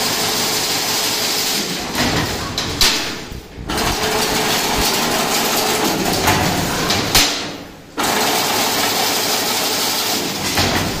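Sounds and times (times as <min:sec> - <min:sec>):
fence weaving machine running: 0:00.0 - 0:11.0.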